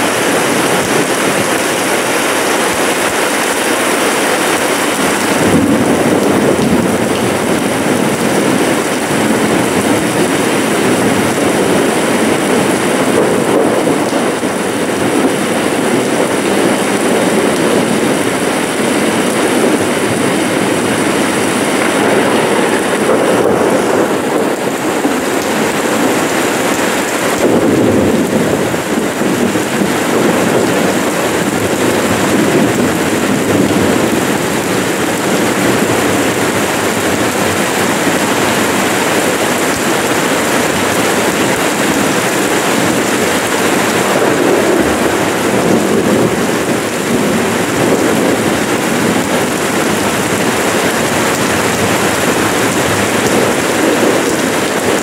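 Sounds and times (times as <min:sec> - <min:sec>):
rain falling on paving and foliage: 0:00.0 - 0:55.0.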